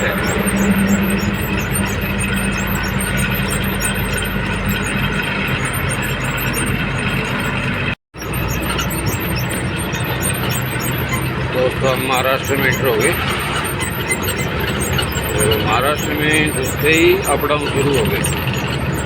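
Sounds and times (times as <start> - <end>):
faint high chirping: 0.0 - 19.0
road noise: 0.0 - 19.0
truck engine drone: 0.0 - 19.0.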